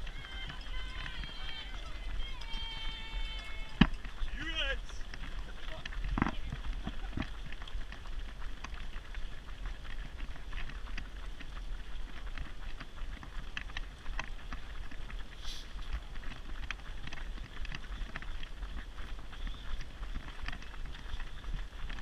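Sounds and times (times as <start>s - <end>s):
runners footsteps on tarmac: 0.0s - 22.0s
wind rumble on microphone: 0.0s - 22.0s.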